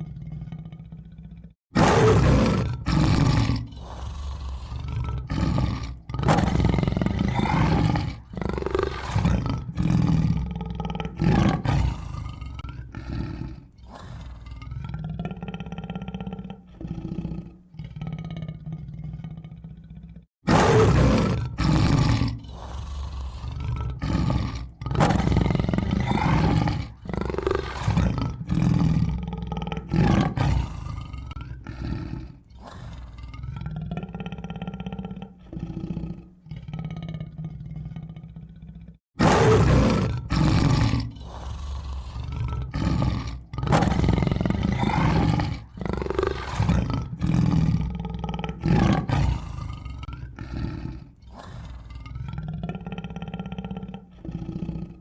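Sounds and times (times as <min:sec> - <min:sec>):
tiger roaring and growling: 0:00.0 - 0:55.0.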